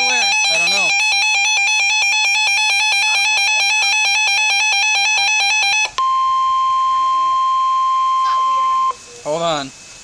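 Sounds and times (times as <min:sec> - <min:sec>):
rapidly pulsing electronic alarm: 0:00.0 - 0:09.0
steady high alarm tone: 0:00.0 - 0:09.0.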